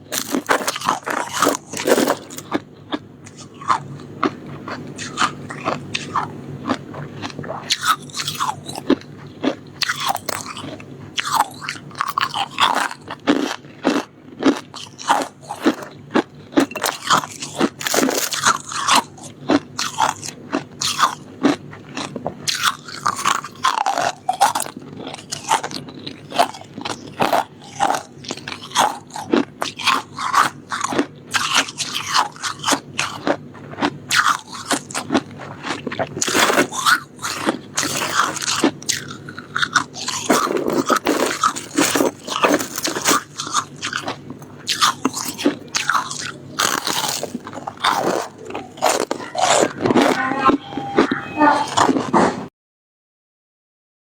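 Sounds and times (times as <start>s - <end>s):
crunching shaved ice: 0.0s - 50.2s.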